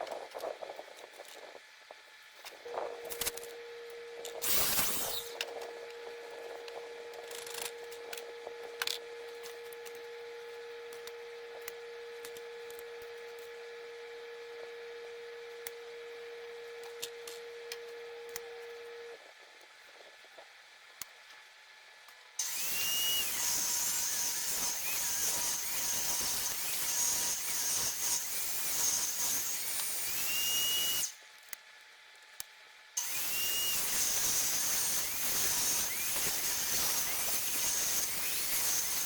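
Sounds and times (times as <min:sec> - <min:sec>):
power tool motor whine: 0:02.6 - 0:19.1, 0:22.4 - 0:31.2, 0:33.0 - 0:39.0.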